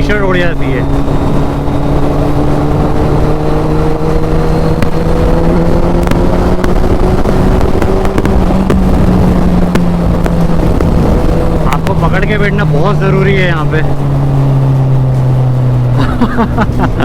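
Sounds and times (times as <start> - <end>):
motorcycle engine accelerating: 0.0 - 17.0
wind rushing across microphone: 0.0 - 17.0.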